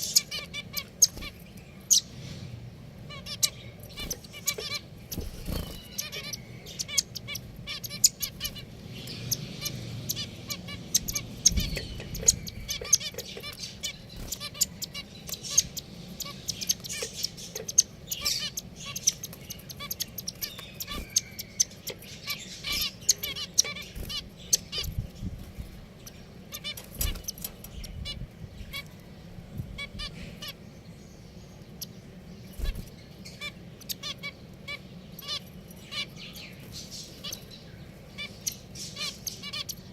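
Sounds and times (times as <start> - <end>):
finches chirping and calling: 0.0 - 39.9.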